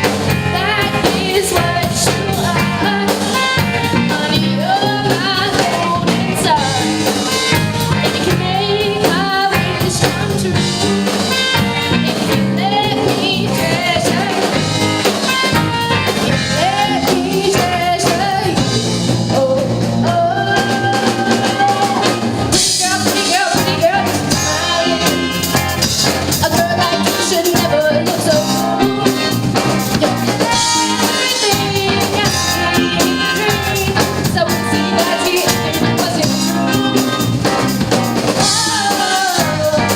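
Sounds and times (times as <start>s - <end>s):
lead singer singing: 0.0s - 39.9s
live band playing: 0.0s - 39.9s.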